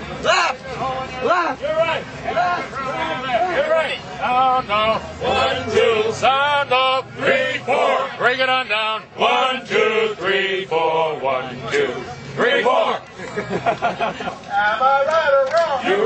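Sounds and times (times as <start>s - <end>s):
men chanting marching cadence: 0.2s - 13.1s, 14.6s - 16.0s.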